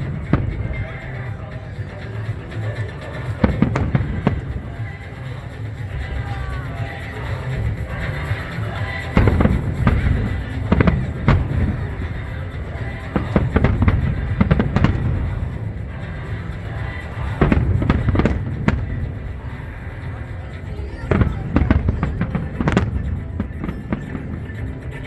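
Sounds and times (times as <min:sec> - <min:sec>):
fireworks bursting: 0:00.0 - 0:25.0
music playing: 0:00.0 - 0:25.0.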